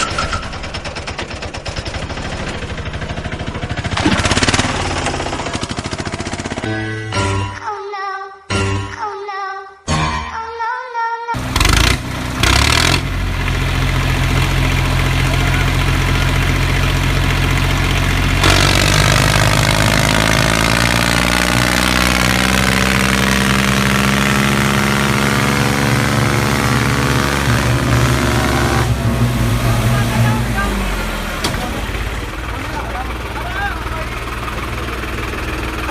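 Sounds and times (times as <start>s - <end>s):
tractor engine starting and running: 0.0s - 7.6s, 11.4s - 35.9s.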